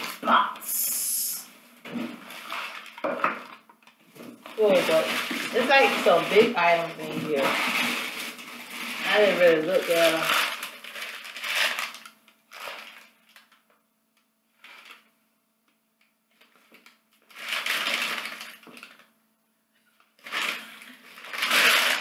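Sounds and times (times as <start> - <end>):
packing paper rustling: 0.0 - 0.9, 1.8 - 13.7, 14.6 - 15.1, 16.3 - 19.1, 20.0 - 22.0.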